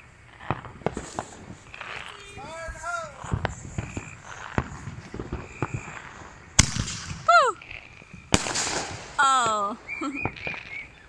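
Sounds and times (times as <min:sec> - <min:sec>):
fireworks crackling pops: 0:00.0 - 0:11.0
sharp firework bangs: 0:00.0 - 0:11.0.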